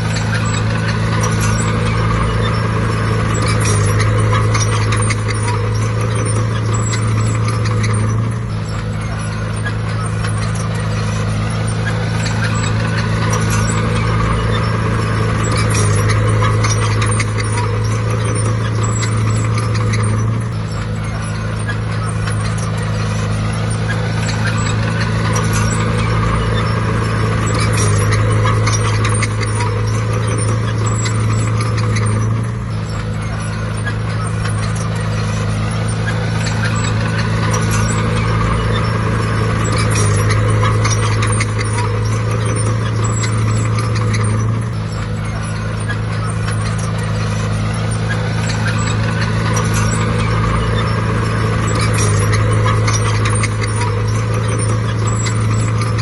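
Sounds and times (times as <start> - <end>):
bulldozer diesel engine under load: 0.0 - 56.0
metal clatter: 0.0 - 56.0.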